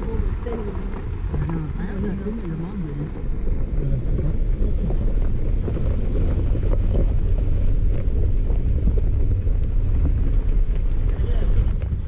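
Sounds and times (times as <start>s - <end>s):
vehicle driving on gravel: 0.0s - 12.0s
wind buffeting microphone: 0.0s - 12.0s.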